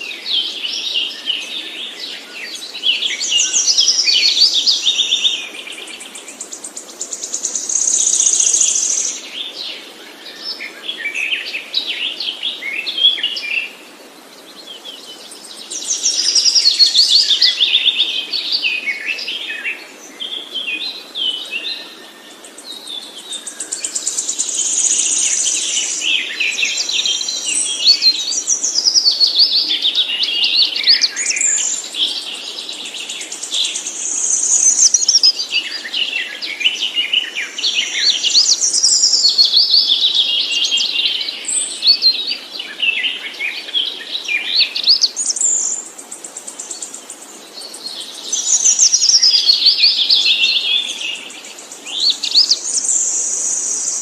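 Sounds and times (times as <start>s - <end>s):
songbird trilling and warbling: 0.0s - 13.8s, 14.4s - 54.0s.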